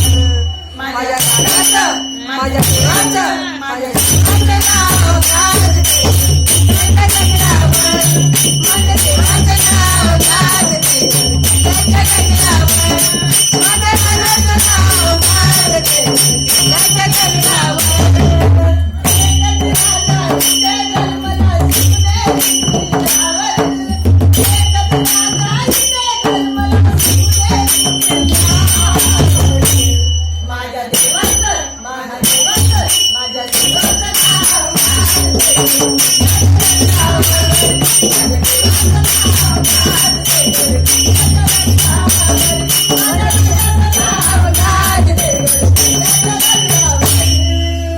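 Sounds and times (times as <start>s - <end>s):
jingling percussion: 0.0s - 47.9s.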